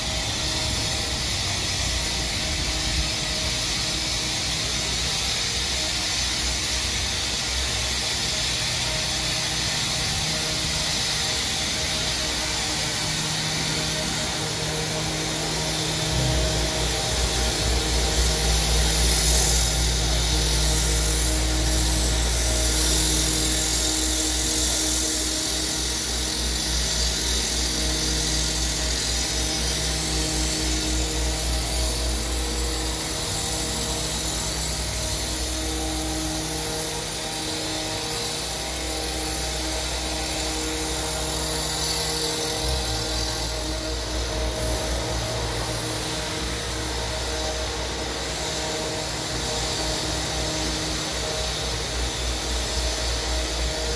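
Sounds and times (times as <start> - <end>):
broad hiss: 0.0 - 53.9
mechanical hum: 0.0 - 53.9.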